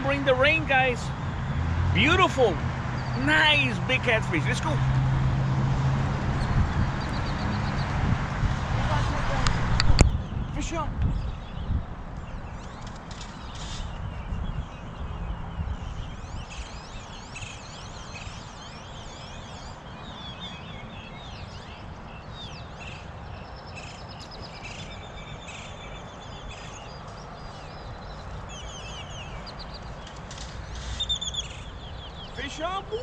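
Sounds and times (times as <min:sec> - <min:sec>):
birds singing and chirping: 0:00.0 - 0:05.2, 0:05.8 - 0:33.0.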